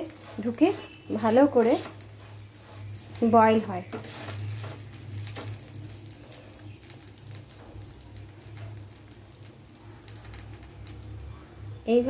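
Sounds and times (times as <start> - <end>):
small crackles and pops: 0.0 - 11.5
batter sizzling in a frying pan: 0.0 - 12.0.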